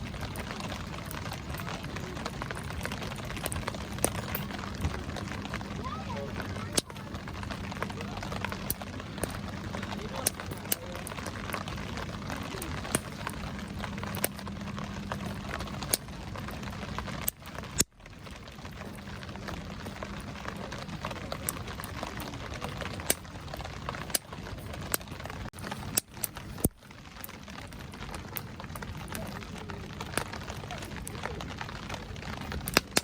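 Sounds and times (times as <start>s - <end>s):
rain hissing: 0.0s - 33.0s
wood fire crackling and popping: 0.0s - 33.0s.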